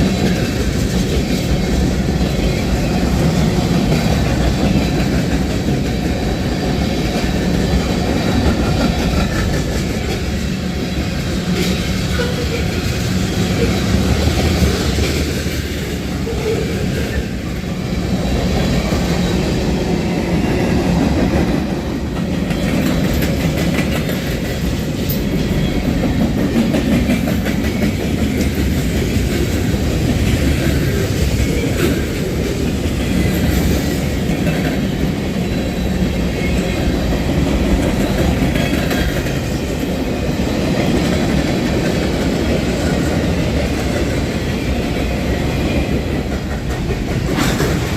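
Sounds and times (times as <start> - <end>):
freight train wheels clattering: 0.0 - 47.9.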